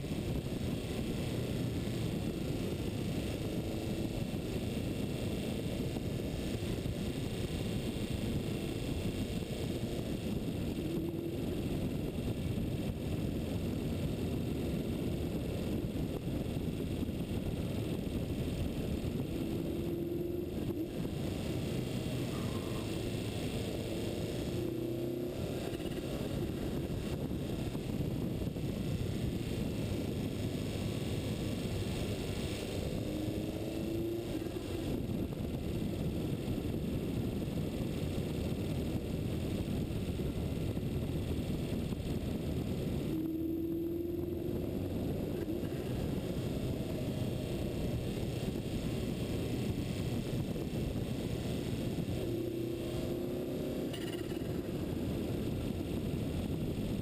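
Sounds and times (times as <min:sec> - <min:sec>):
rising whine: 0:00.0 - 0:57.0
wind and road noise: 0:00.0 - 0:57.0.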